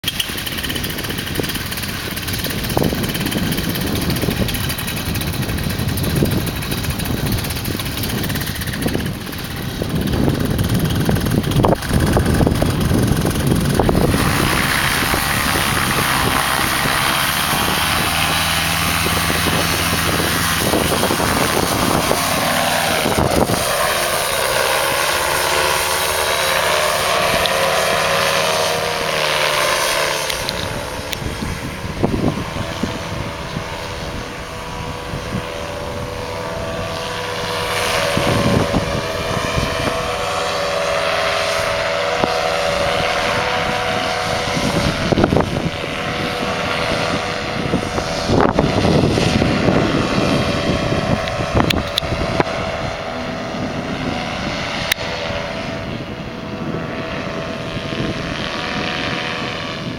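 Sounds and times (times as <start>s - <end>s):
paramotor engine and propeller drone: 0.0s - 59.9s
wind buffeting microphone: 0.0s - 59.9s.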